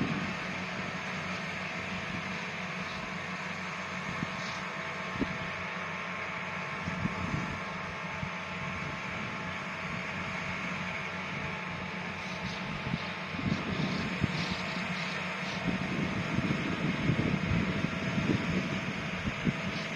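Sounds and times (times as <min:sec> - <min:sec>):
harvesting machine engine running: 0:00.0 - 0:19.9.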